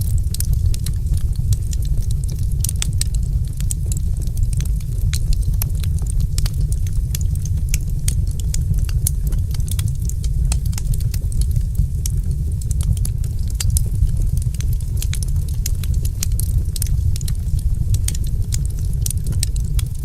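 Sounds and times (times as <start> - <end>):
low rumble: 0.0 - 20.0
wood fire crackling: 0.0 - 20.0.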